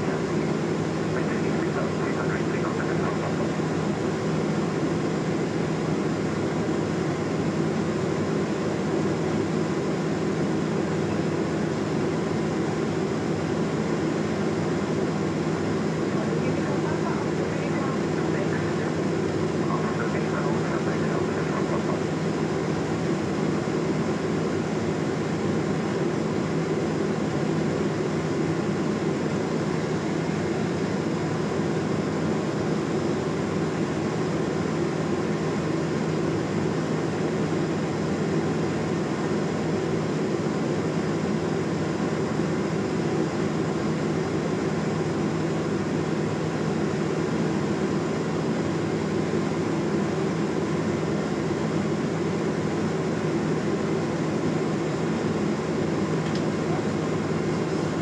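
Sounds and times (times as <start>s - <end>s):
piston engine and propeller drone: 0.0s - 58.0s.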